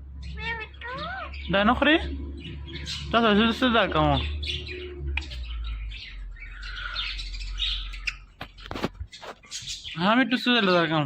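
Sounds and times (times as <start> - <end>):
parrot chattering and chirping: 0.1 - 11.0.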